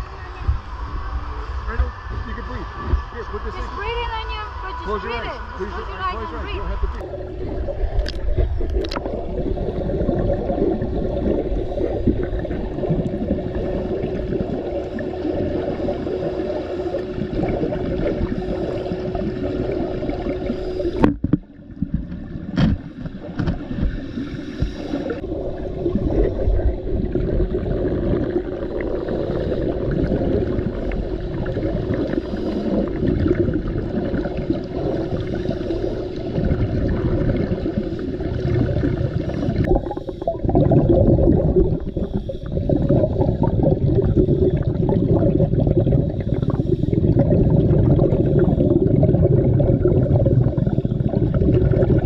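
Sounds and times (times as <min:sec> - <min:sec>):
faint steady hum: 0:00.0 - 0:52.0
underwater water gurgle and bubbles: 0:00.0 - 0:52.0.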